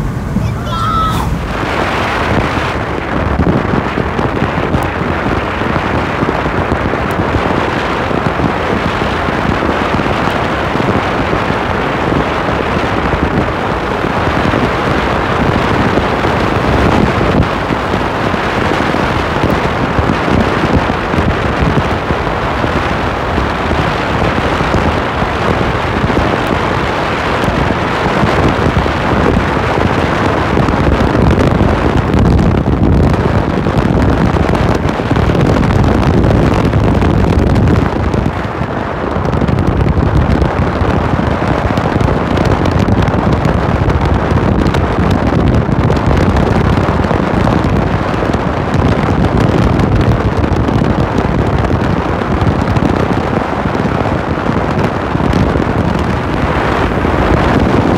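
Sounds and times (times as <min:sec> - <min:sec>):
car road noise: 0:00.0 - 0:57.9
rushing wind: 0:00.0 - 0:57.9.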